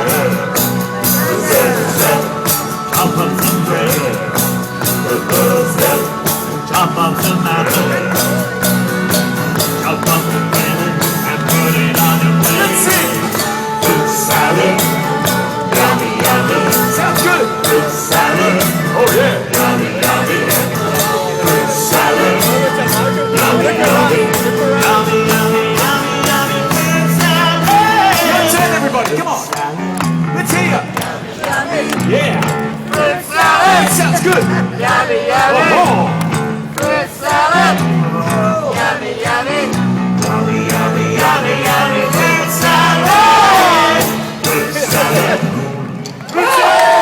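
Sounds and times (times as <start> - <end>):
steady percussion beat: 0.0 - 45.6
live band with singing: 0.0 - 47.0.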